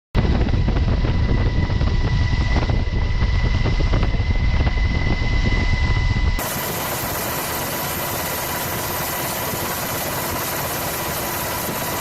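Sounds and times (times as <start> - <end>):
aircraft engine rumbling: 0.2 - 12.0
thin steady whine: 1.8 - 12.0.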